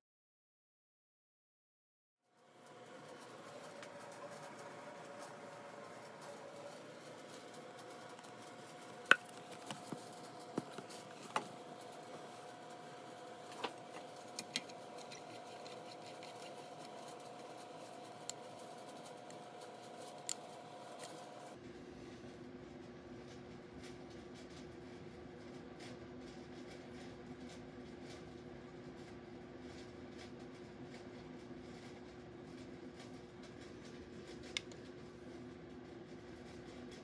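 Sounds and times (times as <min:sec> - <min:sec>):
faint steady hum: 0:02.3 - 0:37.0.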